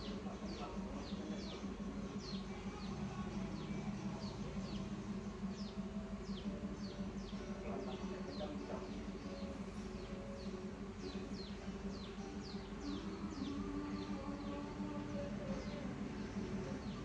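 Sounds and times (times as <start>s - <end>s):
small bird chirping: 0.0s - 17.0s
steady low hum: 0.0s - 17.0s.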